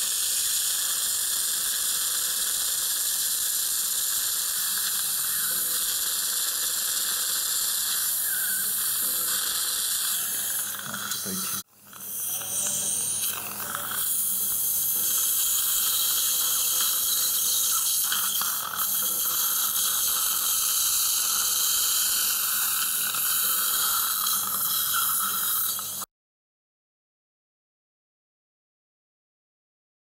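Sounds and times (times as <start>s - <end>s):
surgical drill hiss and motor hum: 0.0s - 26.0s.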